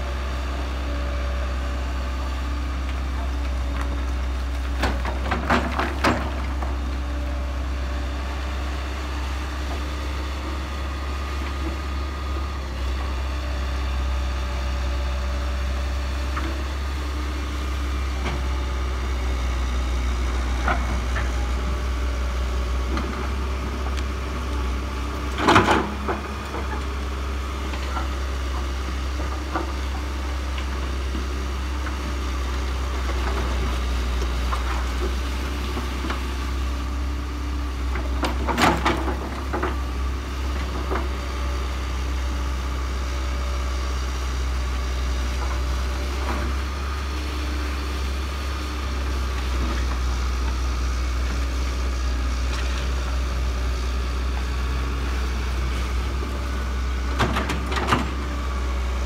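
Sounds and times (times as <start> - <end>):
heavy machinery engines idling: 0.0 - 59.0.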